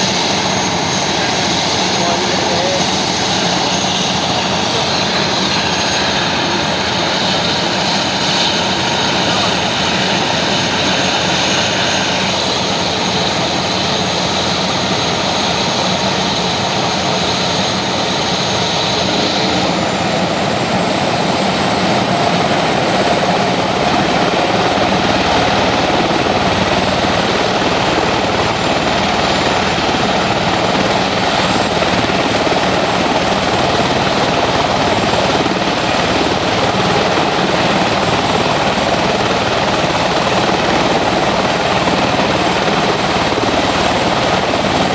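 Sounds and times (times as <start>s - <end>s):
helicopter rotor and engine: 0.0s - 44.9s.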